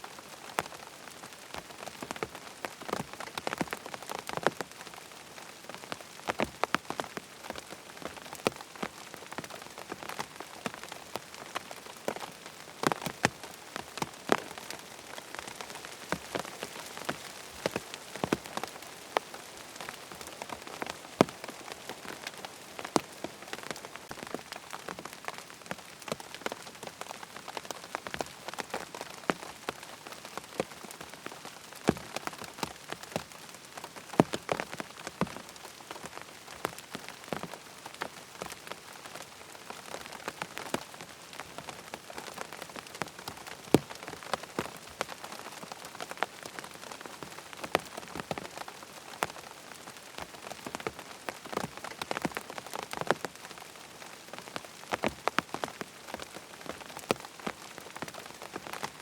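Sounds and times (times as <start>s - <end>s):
rain pattering on a tent: 0.0s - 59.0s.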